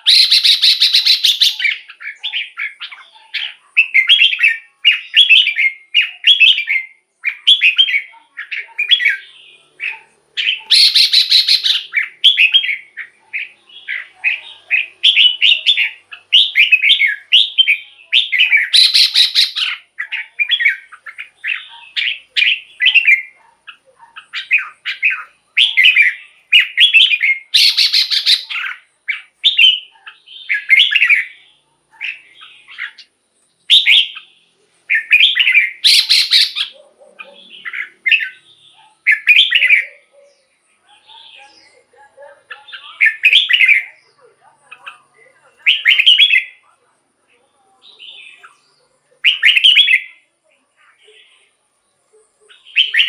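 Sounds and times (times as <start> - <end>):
bird warbling song: 0.0 - 46.6, 47.9 - 50.2, 52.2 - 53.0.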